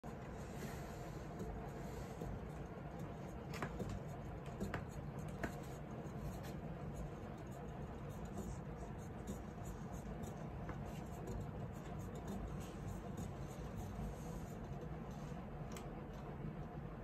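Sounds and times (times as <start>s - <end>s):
hamster feet pattering: 0.1s - 16.3s.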